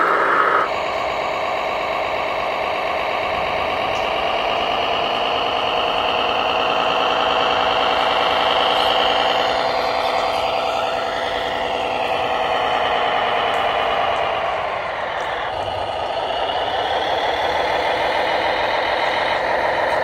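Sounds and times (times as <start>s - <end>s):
high motor whine: 0.0s - 20.0s.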